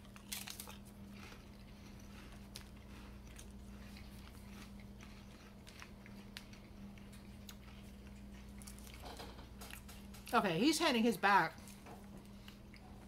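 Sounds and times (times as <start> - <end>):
crunchy chewing: 0.0 - 10.4, 11.5 - 13.0.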